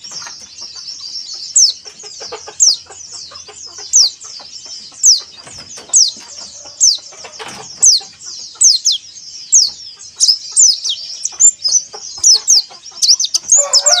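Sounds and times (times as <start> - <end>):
bird twittering: 0.0 - 14.0
birds calling high notes: 0.0 - 14.0.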